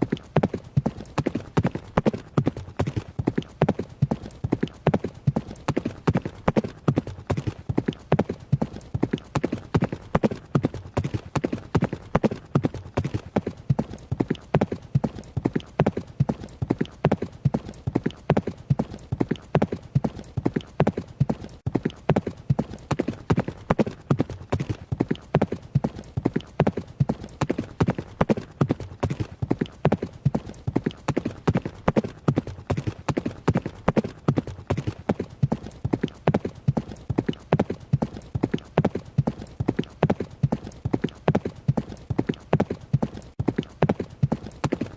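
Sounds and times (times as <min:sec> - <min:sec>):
horse hoofbeats running: 0:00.0 - 0:44.9.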